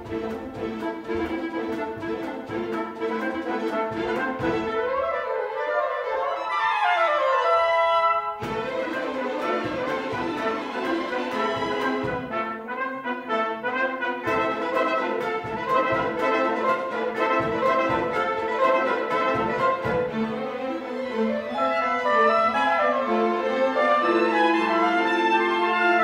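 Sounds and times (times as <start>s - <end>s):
orchestra strings and woodwinds: 0.0s - 26.0s.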